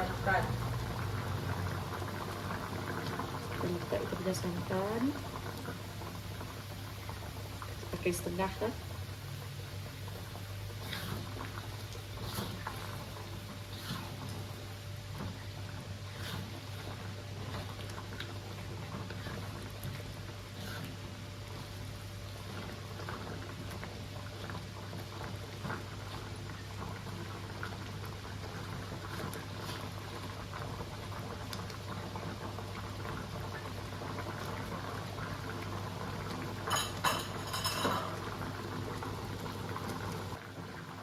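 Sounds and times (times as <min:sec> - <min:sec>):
curry bubbling in a pot: 0:00.0 - 0:41.0.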